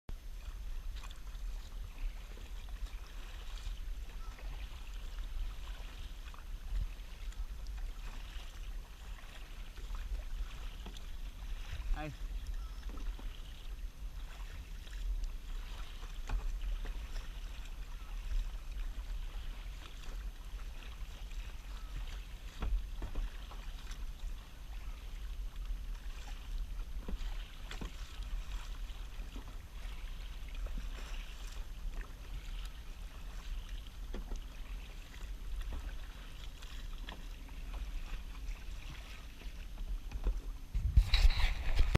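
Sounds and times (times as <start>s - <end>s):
paddle splashing water: 0.1s - 41.9s.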